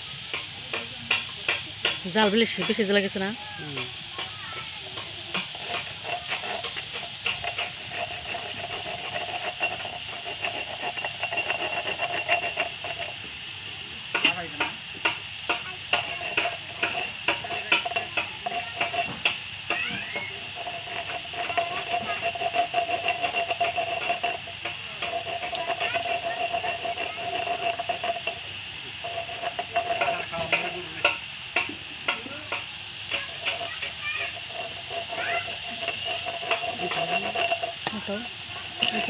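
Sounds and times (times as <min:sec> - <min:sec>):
oil sizzling and popping: 0:00.0 - 0:39.0.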